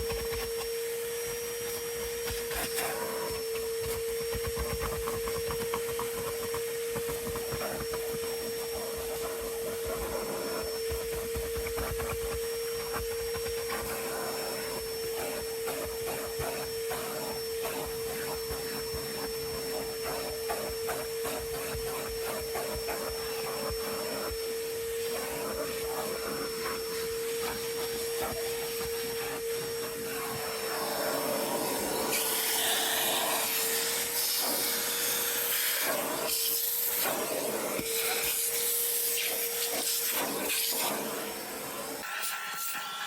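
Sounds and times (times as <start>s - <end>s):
vacuum cleaner whine: 0.0s - 43.0s.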